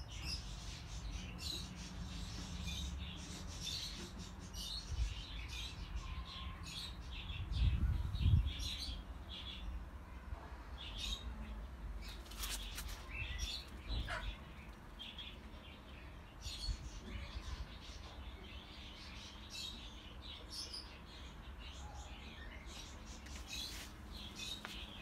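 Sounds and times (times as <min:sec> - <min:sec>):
small birds chirping: 0:00.0 - 0:09.9, 0:10.7 - 0:25.0.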